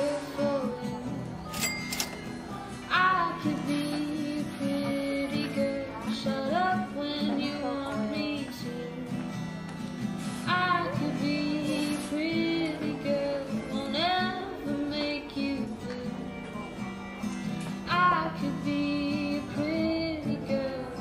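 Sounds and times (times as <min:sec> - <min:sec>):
woman singing: 0:00.0 - 0:01.5, 0:02.7 - 0:09.4, 0:10.4 - 0:16.4, 0:17.8 - 0:21.0
acoustic guitar: 0:00.0 - 0:21.0.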